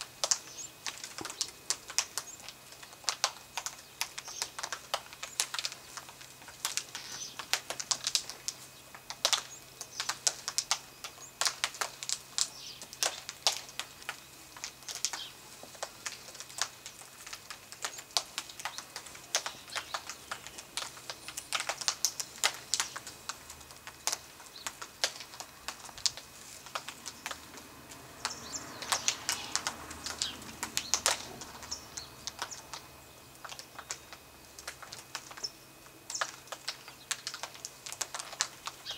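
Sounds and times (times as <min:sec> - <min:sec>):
beaks cracking seed cones: 0:00.0 - 0:38.9
twigs snapping: 0:00.2 - 0:35.5, 0:36.1 - 0:38.9.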